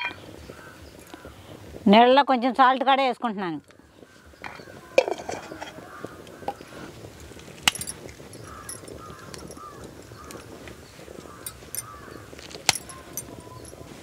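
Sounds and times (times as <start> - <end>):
crows cawing: 0.0 - 1.6, 3.7 - 13.7
small birds chirping: 0.1 - 14.0.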